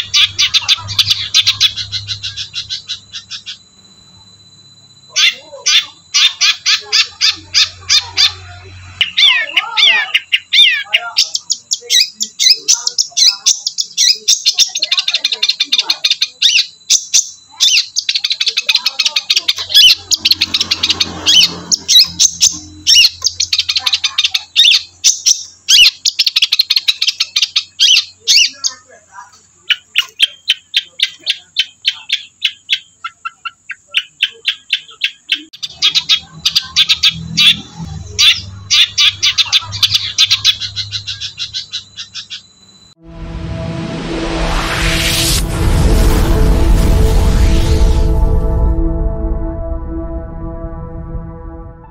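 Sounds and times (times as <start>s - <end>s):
bird singing chattering notes: 0.0s - 42.9s.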